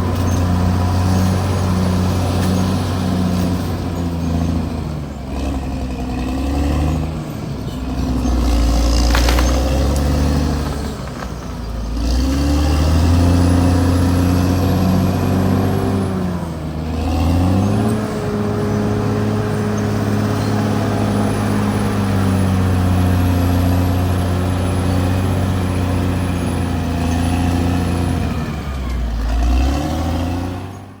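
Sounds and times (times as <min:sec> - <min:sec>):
bulldozer diesel engine under load: 0:00.0 - 0:31.0.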